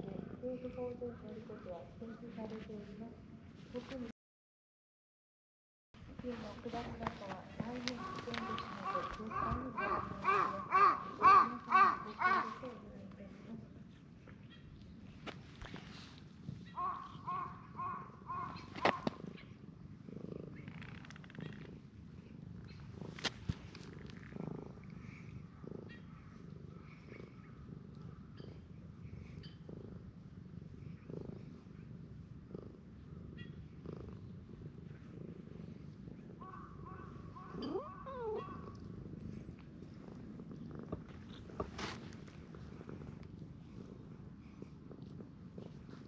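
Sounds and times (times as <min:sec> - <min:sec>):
cat purring: 0:00.0 - 0:04.0, 0:06.1 - 0:46.0.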